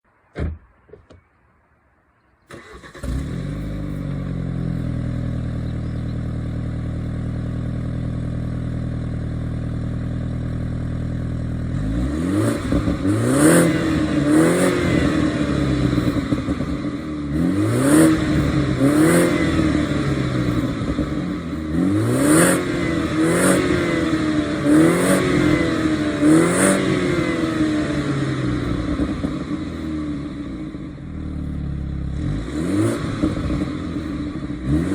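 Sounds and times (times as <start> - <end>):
car engine starting and idling: 2.4 - 34.9
engine revving: 2.5 - 7.4, 9.4 - 34.9.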